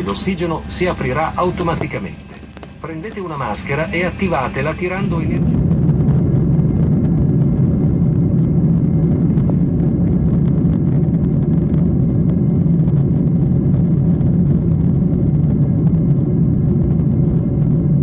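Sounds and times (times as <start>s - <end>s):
jet engine cabin drone: 0.0s - 18.0s.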